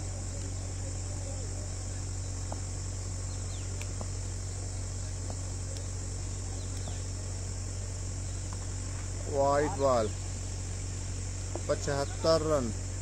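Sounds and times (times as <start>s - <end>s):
insects droning: 0.0s - 13.0s
low steady hum: 0.0s - 13.0s.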